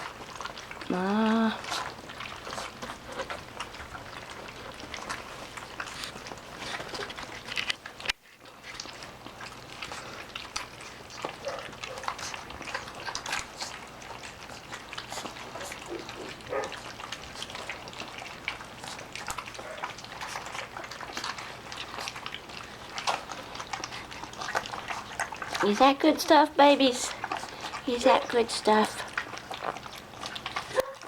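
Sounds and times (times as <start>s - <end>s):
puppies lapping and slurping: 0.0s - 31.0s.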